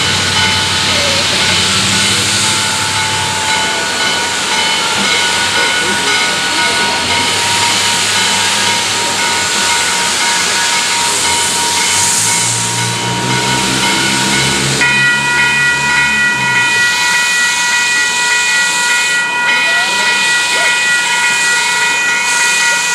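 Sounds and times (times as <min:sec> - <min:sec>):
locomotive venting steam: 0:00.0 - 0:22.9.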